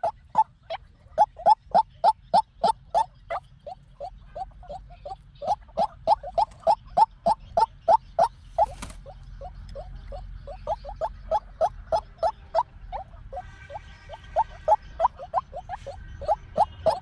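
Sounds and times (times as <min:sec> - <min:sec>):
waterhen upward-slurred calls: 0:00.0 - 0:17.0.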